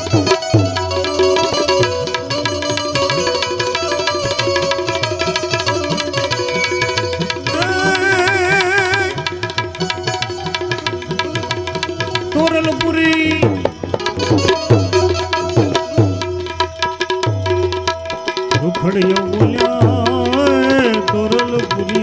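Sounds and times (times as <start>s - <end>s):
fast tabla beat: 0.0s - 22.0s
held melody notes: 0.0s - 22.0s.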